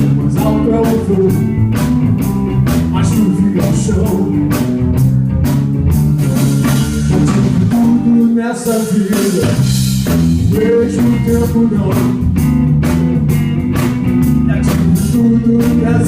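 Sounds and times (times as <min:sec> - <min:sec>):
bass guitar: 0:00.0 - 0:16.0
drum kit steady beat: 0:00.0 - 0:16.0
electric guitar: 0:00.0 - 0:16.0.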